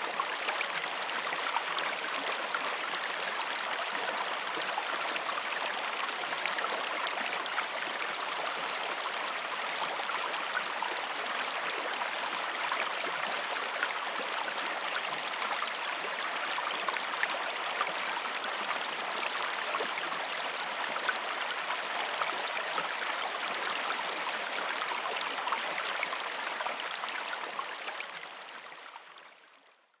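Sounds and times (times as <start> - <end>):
stream water flowing: 0.0 - 29.8.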